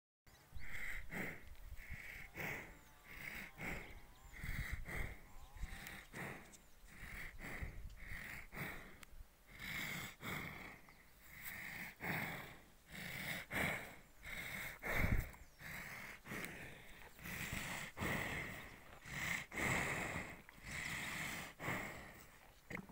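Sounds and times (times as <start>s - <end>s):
water buffalo snorting and sniffing: 0.6s - 22.9s.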